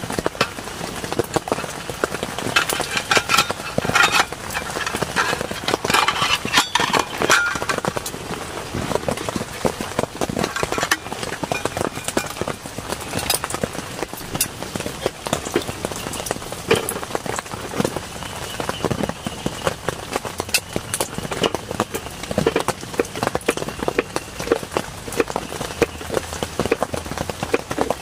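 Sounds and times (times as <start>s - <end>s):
heavy rain patter on a surface: 0.0s - 28.0s.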